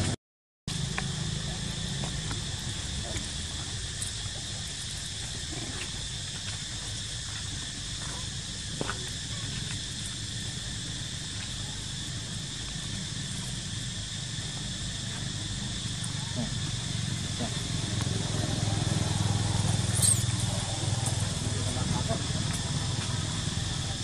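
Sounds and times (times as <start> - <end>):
insect chorus drone: 0.7 - 24.0.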